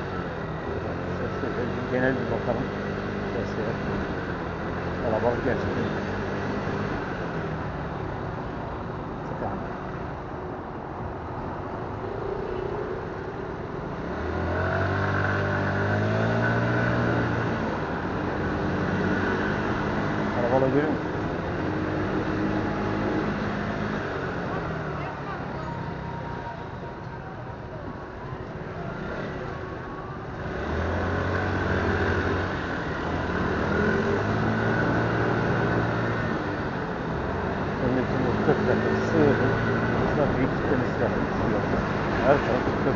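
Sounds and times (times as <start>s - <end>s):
engine hum climbing in pitch: 0.0s - 42.9s
road and wind noise: 0.0s - 42.9s.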